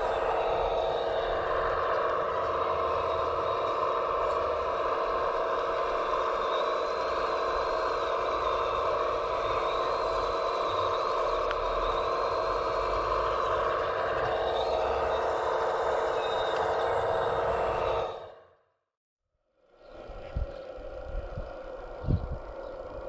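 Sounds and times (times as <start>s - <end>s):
electric motors whining: 0.0s - 18.6s, 19.6s - 23.0s.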